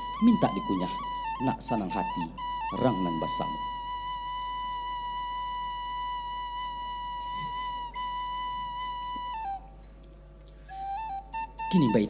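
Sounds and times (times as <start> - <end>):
bamboo flute notes: 0.0 - 12.0.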